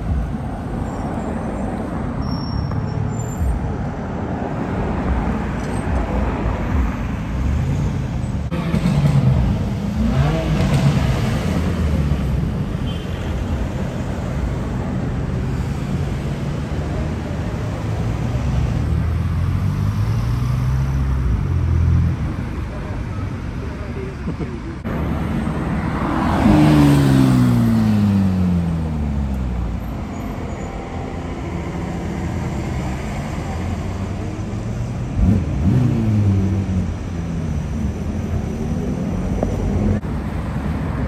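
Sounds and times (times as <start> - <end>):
road traffic engines: 0.0 - 41.0.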